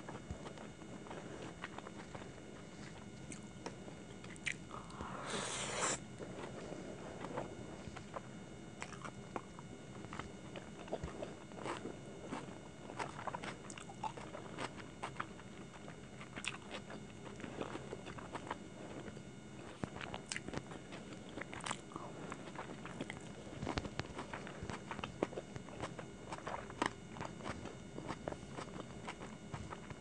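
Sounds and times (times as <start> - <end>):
close chewing and mouth sounds: 0.0 - 30.0.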